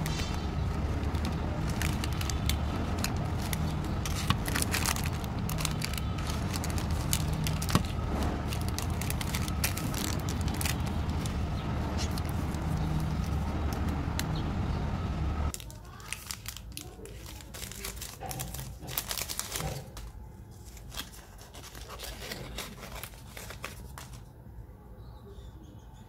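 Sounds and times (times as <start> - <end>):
candy wrappers crinkling: 0.0 - 14.3, 15.5 - 24.4.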